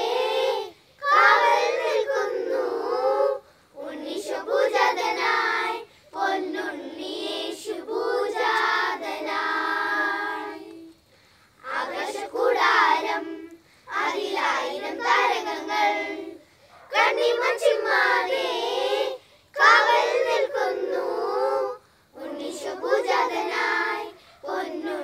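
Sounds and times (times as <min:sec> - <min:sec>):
children's choir singing: 0:00.0 - 0:10.9, 0:11.6 - 0:25.0.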